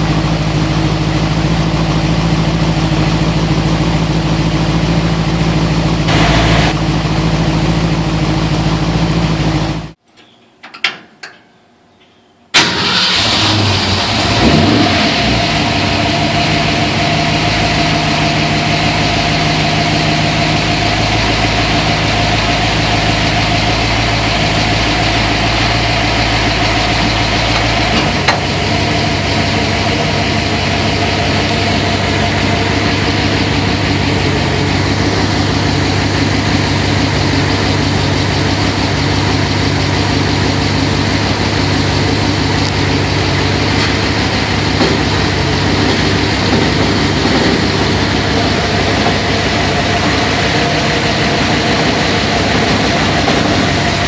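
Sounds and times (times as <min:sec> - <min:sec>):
car engine idling: 0:00.0 - 0:10.0, 0:12.5 - 0:54.0.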